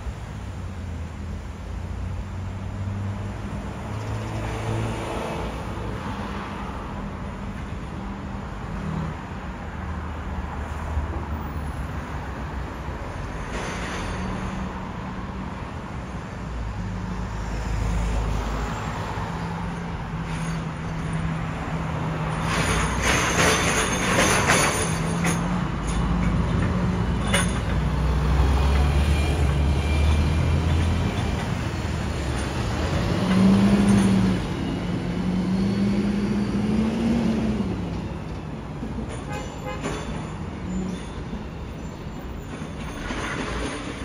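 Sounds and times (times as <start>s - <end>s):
vehicles passing: 0.0s - 44.0s.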